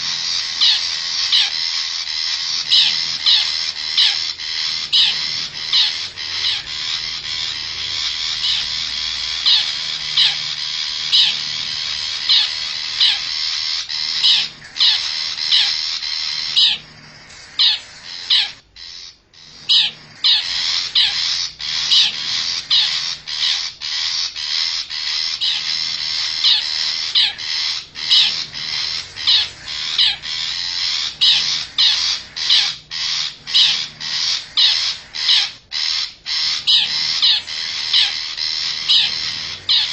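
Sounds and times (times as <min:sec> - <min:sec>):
dense bird chatter: 0:00.0 - 0:39.9
short bird calls: 0:00.0 - 0:39.9.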